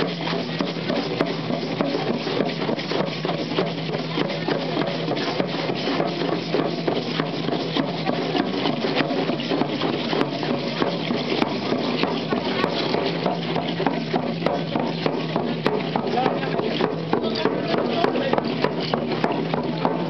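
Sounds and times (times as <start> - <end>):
dancers' rattles: 0.0 - 20.0
fast percussion rhythm: 0.0 - 20.0.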